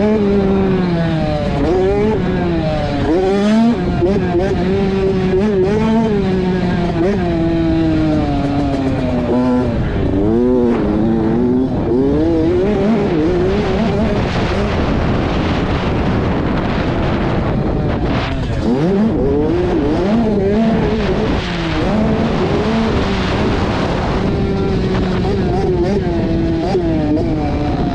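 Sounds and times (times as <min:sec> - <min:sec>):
dirt bike engine revving: 0:00.0 - 0:27.9
steady rushing noise: 0:00.0 - 0:27.9.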